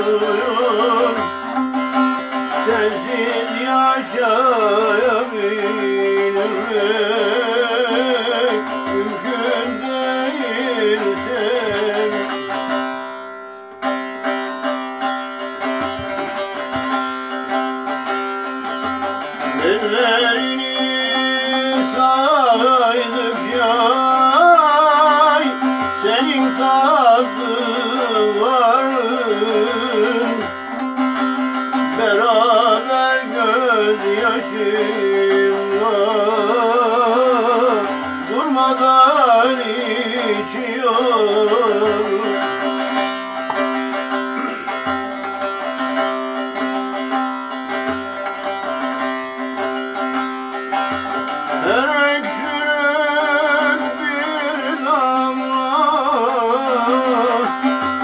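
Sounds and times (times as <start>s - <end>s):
long-necked lute folk melody: 0.0s - 58.0s.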